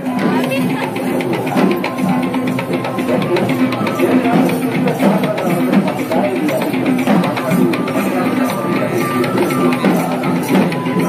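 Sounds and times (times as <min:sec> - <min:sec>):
fast drumming: 0:00.0 - 0:11.0.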